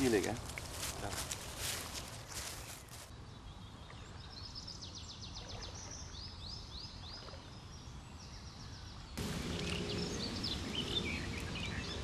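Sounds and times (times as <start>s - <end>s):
outdoor background noise: 0.0s - 12.0s
songbird singing: 0.0s - 12.0s.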